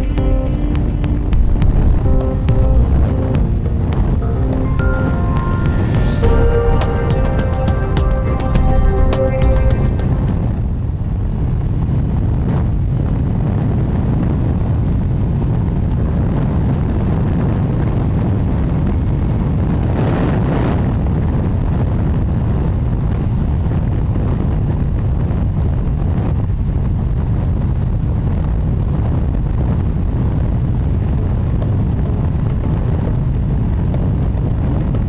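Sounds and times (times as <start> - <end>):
motorcycle engine and road noise: 0.0 - 35.0
wind rumble on microphone: 0.0 - 35.0.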